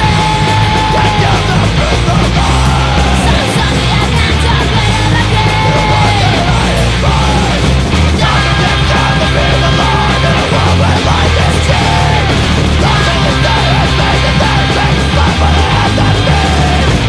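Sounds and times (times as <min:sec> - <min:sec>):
distorted electric guitars: 0:00.0 - 0:17.0
drums: 0:00.0 - 0:17.0
shouted vocals: 0:00.0 - 0:17.0.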